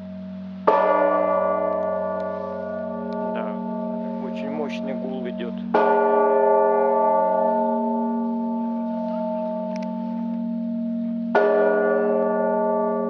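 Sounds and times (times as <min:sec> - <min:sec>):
large church bell ringing: 0:00.0 - 0:13.0.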